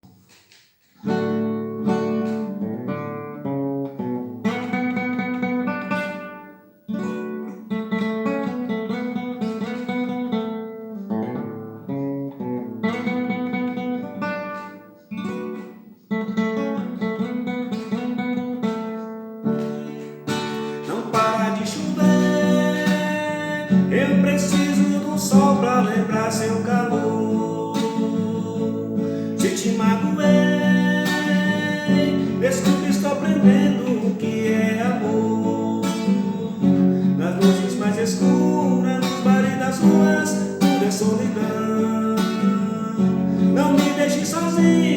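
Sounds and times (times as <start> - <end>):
acoustic guitar picked notes: 0.0 - 44.9.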